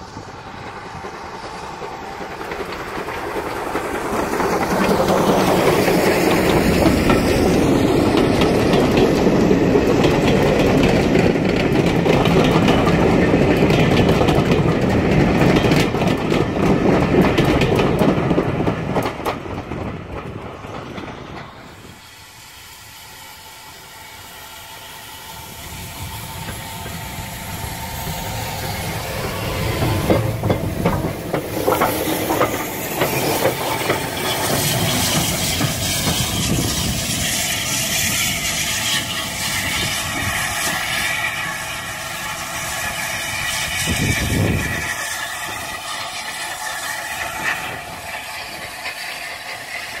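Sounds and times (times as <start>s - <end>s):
steam hiss: 0.0s - 16.0s, 20.7s - 50.0s
train wheels clattering over rail joints: 0.0s - 22.4s, 25.5s - 50.0s
steam locomotive passing: 0.0s - 50.0s.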